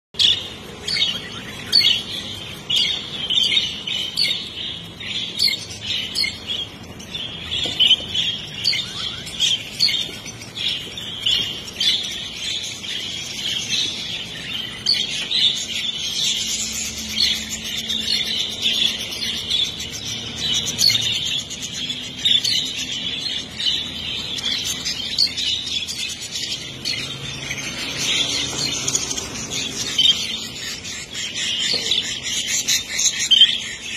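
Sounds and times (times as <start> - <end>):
budgerigars chattering: 0.2 - 33.9.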